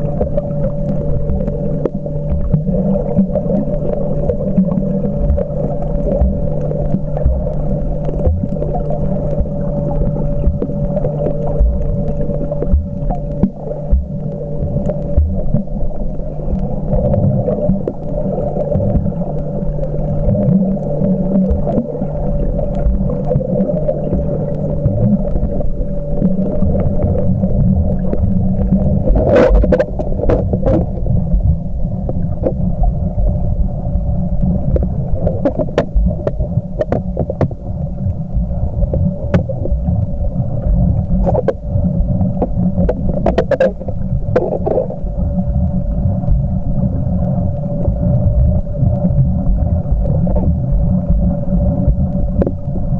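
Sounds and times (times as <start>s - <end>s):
sharp underwater clicks: 0.0s - 33.1s, 34.3s - 52.9s
muffled underwater rumble: 0.0s - 52.9s.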